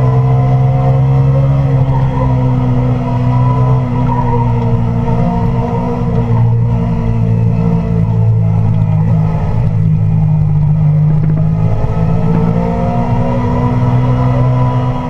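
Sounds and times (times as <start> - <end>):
motorcycle engine while riding: 0.0 - 15.0.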